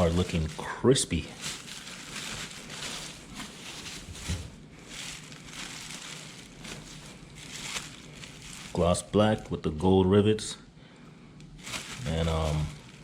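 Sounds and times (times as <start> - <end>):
packaging rustling and crinkling: 0.0 - 9.4, 11.5 - 13.0.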